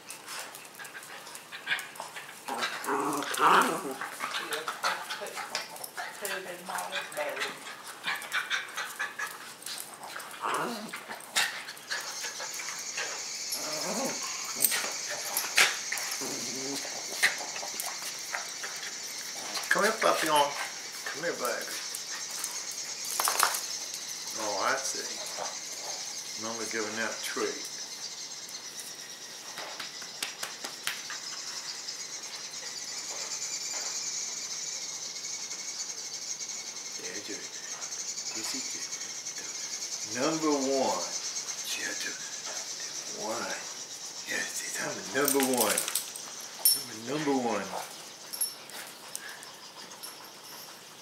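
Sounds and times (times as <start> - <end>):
high-pitched background hiss: 0.0 - 51.0.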